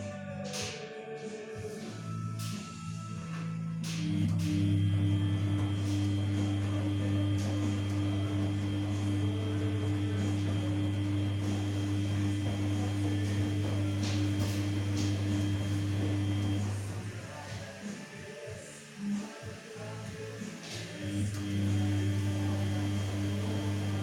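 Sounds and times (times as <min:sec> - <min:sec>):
washing machine humming: 0:03.8 - 0:24.0.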